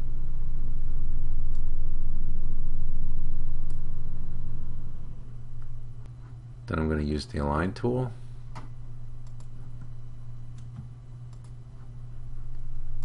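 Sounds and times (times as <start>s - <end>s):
loud low rumble with hum: 0.0s - 13.0s.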